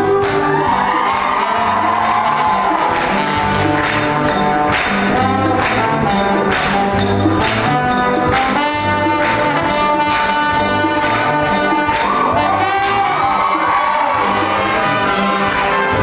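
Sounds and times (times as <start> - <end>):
brass band playing: 0.0 - 16.0
trombone solo: 0.0 - 16.0.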